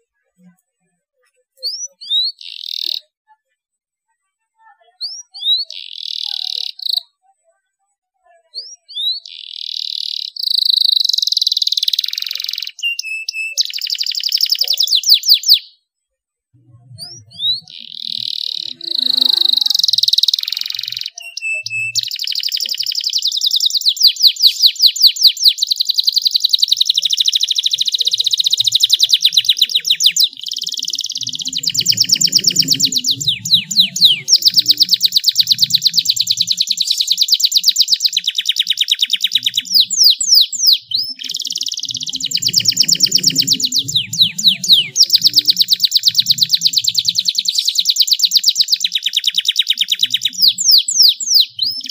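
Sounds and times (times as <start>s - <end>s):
canary trilling: 1.7s - 3.1s, 5.0s - 7.1s, 8.6s - 15.8s, 16.8s - 51.9s.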